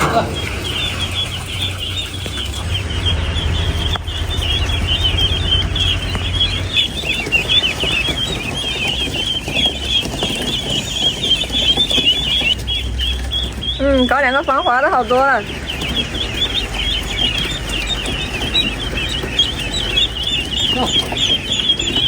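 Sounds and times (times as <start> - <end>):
ducklings peeping: 0.0 - 22.0
steady low hum: 0.0 - 22.0.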